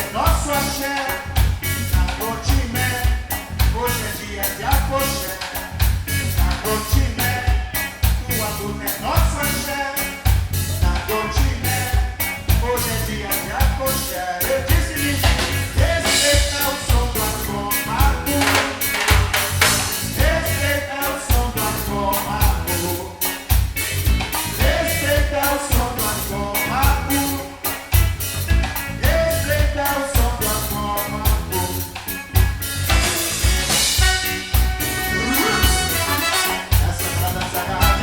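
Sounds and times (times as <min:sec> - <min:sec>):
drum kit beat: 0:00.0 - 0:38.0
live band playing upbeat song: 0:00.0 - 0:38.0.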